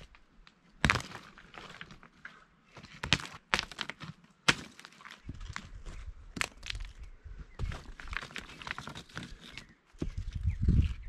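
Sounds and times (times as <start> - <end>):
crunching and shuffling: 0.0 - 11.0.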